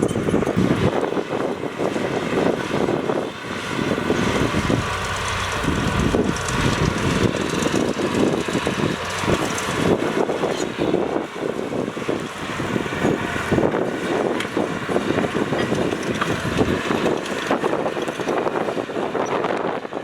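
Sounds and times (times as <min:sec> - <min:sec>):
heavy machinery diesel engines: 0:00.0 - 0:20.0
wind buffeting microphone: 0:00.0 - 0:20.0.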